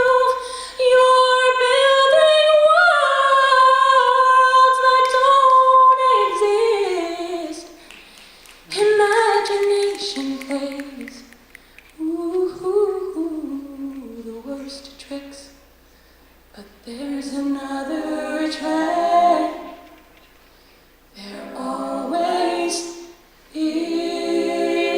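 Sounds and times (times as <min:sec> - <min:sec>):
female voices singing a cappella: 0:00.0 - 0:11.4, 0:12.0 - 0:15.7, 0:16.5 - 0:20.1, 0:21.1 - 0:24.9.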